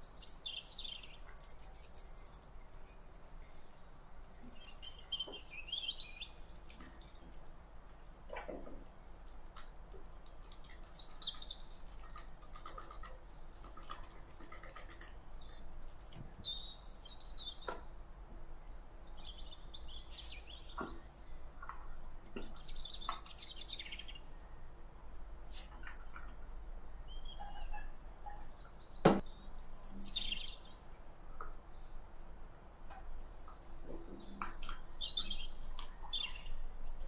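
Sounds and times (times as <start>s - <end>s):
small birds twittering: 0.0s - 8.9s, 9.6s - 37.0s.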